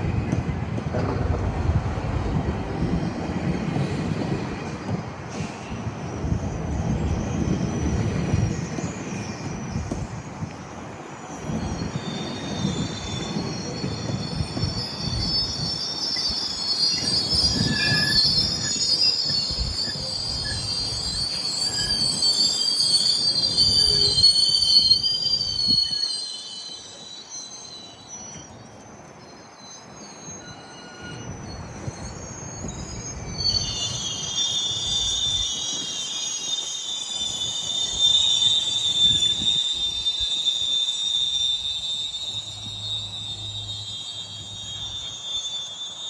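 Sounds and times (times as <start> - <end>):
low train rumble: 0.0 - 46.0
train wheels squealing: 0.0 - 46.0.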